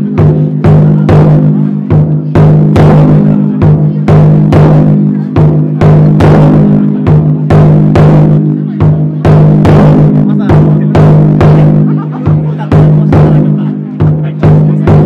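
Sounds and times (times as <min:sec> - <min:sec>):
taiko drum booming: 0:00.0 - 0:15.0.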